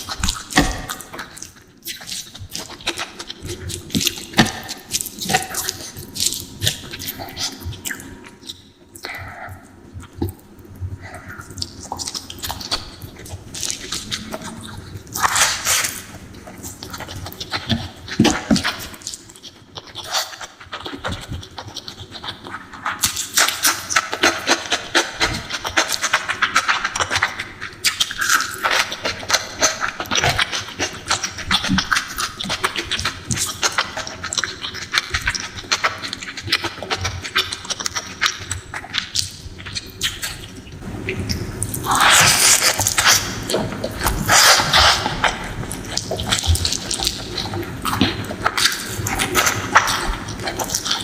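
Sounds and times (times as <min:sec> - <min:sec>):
wet chewing and smacking: 0:00.0 - 0:51.0.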